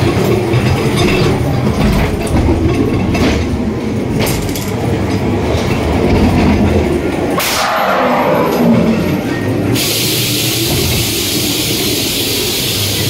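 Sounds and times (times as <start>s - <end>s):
ride car rumbling on track: 0.0s - 13.0s.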